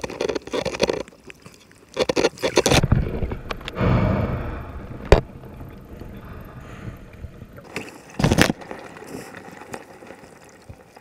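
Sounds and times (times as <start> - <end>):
underwater water moving: 0.0 - 11.0.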